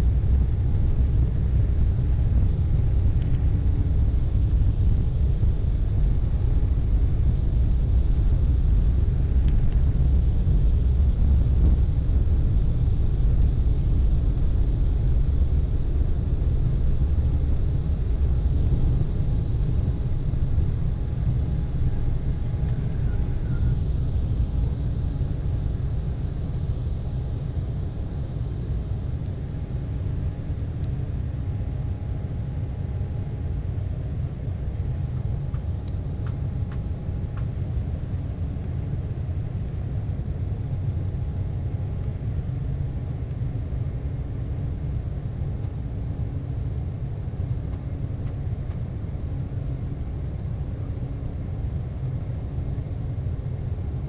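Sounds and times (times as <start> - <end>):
faint steady engine tones: 0.0 - 54.0
jet engines rumbling: 0.0 - 54.0.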